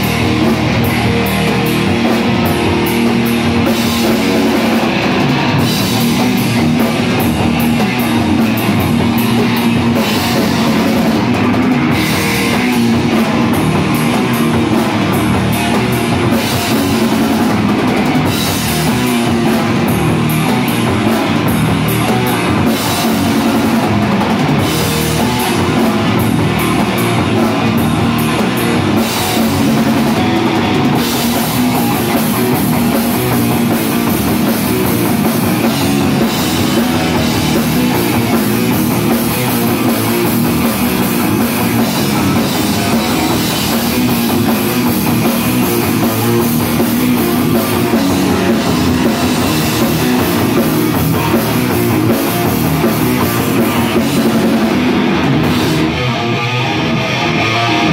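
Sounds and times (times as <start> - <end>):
bass guitar: 0.0 - 57.9
distorted electric guitar: 0.0 - 57.9
pounding drum kit: 0.0 - 57.9.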